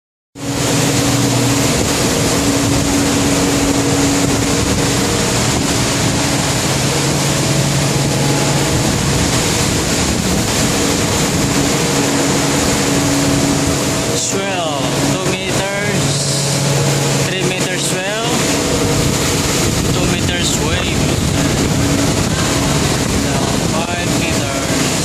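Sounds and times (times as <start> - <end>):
heavy sea: 0.4 - 25.0
ship engines humming: 0.4 - 25.0
storm wind: 0.4 - 25.0.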